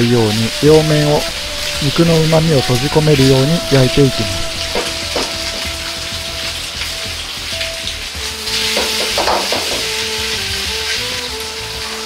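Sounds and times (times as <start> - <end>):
meat sizzling in a wok: 0.0 - 12.0.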